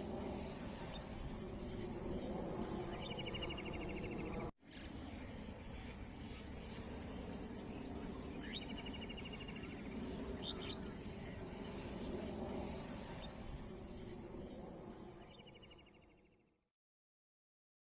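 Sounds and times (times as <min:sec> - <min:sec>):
crickets trilling: 0:00.0 - 0:16.3.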